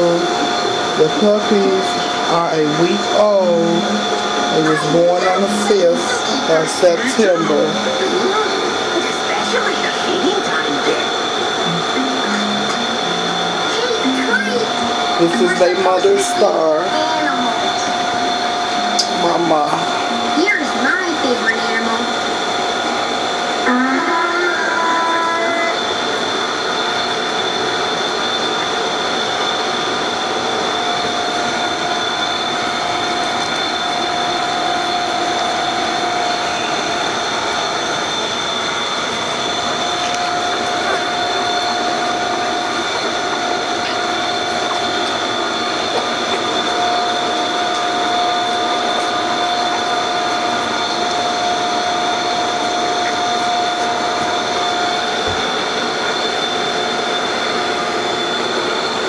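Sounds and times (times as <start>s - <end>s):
machine whine over hiss: 0.0s - 59.0s.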